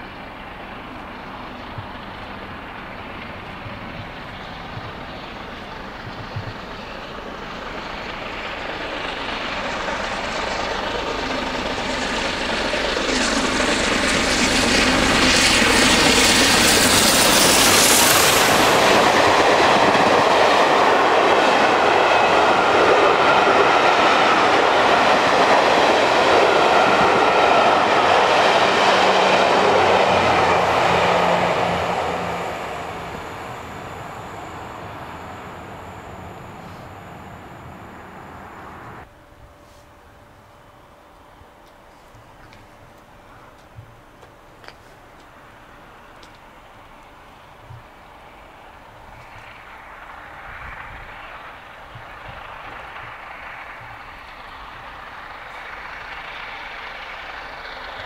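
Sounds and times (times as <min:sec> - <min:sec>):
coaches running on rails: 0:00.0 - 0:39.3, 0:40.6 - 0:58.0
steam locomotive passing: 0:00.0 - 0:58.0.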